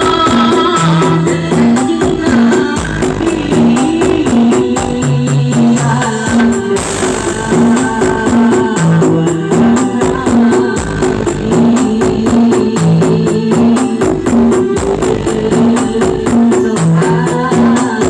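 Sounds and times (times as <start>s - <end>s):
loud music with fast beat: 0.0s - 18.0s.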